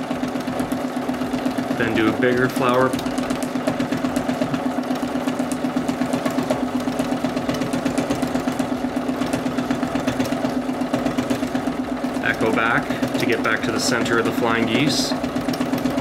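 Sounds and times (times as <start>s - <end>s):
sewing machine stitching: 0.0s - 16.0s.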